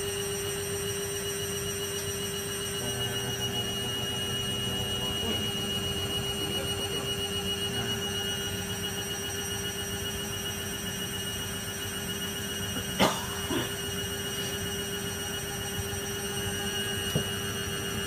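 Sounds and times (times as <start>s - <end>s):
washing machine motor whine: 0.0s - 18.0s.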